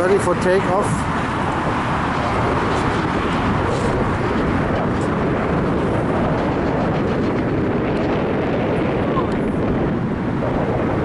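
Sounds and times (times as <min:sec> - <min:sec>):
jet engines roaring at takeoff: 0:00.0 - 0:11.0.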